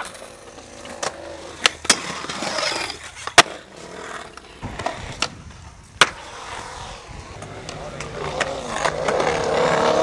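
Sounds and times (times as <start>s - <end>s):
skateboard clacking on ground: 0.0s - 6.4s, 7.2s - 10.0s
skateboard scraping on concrete: 0.0s - 10.0s.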